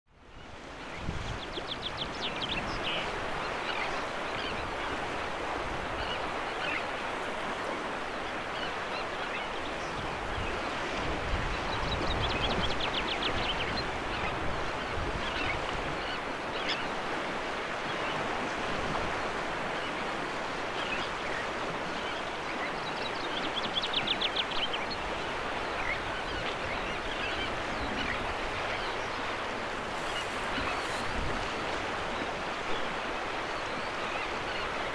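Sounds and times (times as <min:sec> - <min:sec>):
choppy water: 0:00.1 - 0:34.9
wind: 0:00.1 - 0:34.9.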